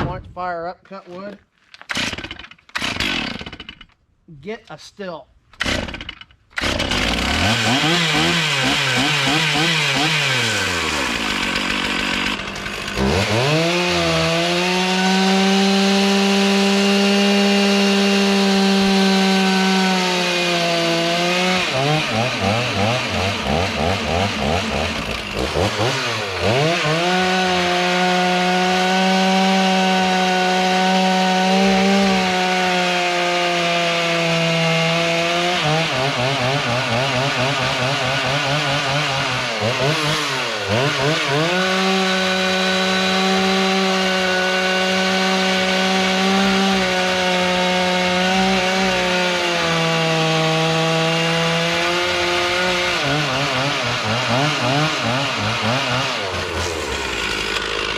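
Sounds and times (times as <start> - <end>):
chainsaw cutting wood: 1.8 - 4.0, 5.5 - 57.9.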